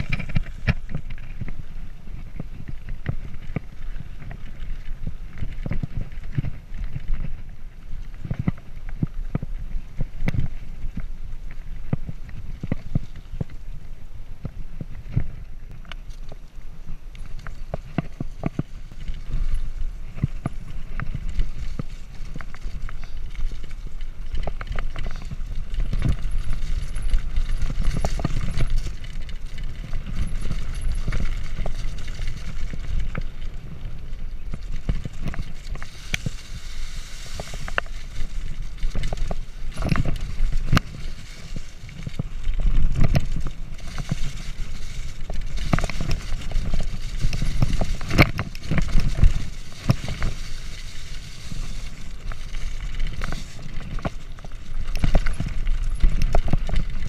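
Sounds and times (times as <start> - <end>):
bike rattling over bumps: 0.0 - 57.0
bike tyres rolling on dirt: 0.0 - 57.0.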